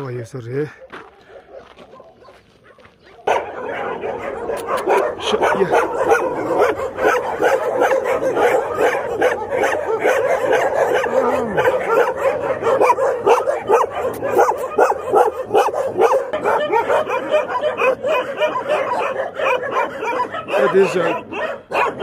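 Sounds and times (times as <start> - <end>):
dogs barking: 0.6 - 22.0.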